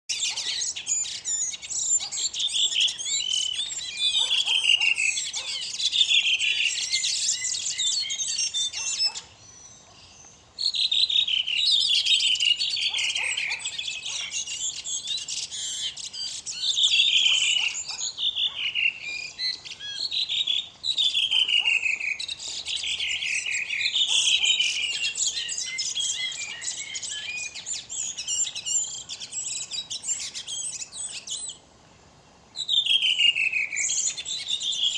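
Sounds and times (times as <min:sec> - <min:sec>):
songbird singing trills: 0:00.1 - 0:31.7, 0:32.5 - 0:34.9.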